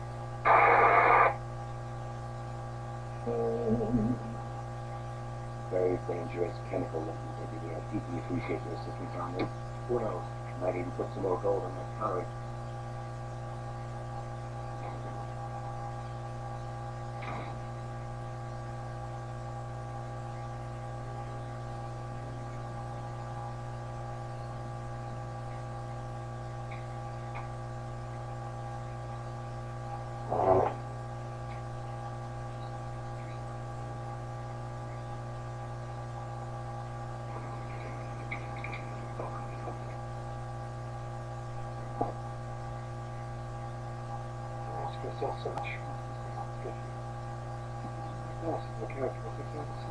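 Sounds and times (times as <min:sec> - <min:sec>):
electrical mains hum: 0:00.0 - 0:49.9.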